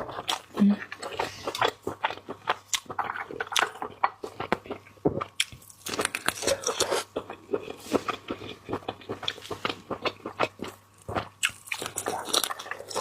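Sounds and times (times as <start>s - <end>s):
wet chewing of seafood: 0.0s - 13.0s.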